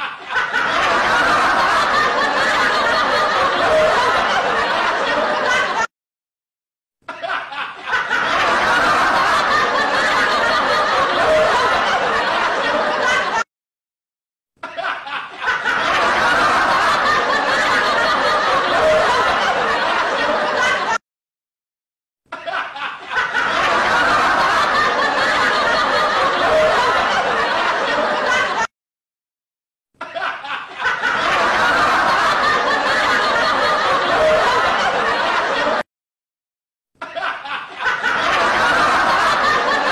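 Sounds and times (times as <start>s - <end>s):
laughter: 0.0s - 5.9s, 7.0s - 13.5s, 14.6s - 21.0s, 22.3s - 28.7s, 30.0s - 35.9s, 37.0s - 39.9s.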